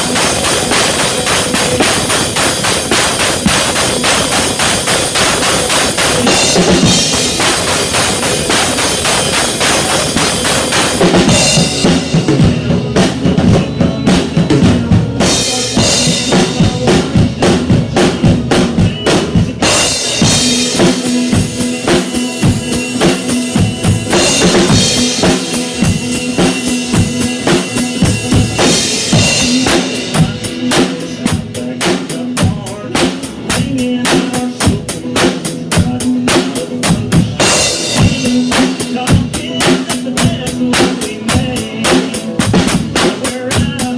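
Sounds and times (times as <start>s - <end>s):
country band instrumental: 0.0s - 43.9s
drum kit beat: 0.0s - 43.9s.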